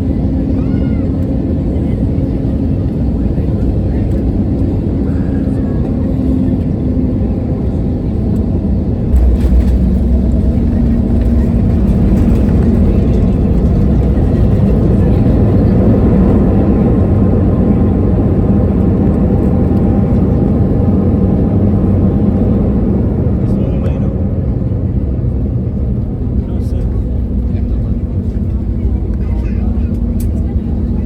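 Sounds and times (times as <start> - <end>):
aircraft cabin rumble: 0.0 - 31.0.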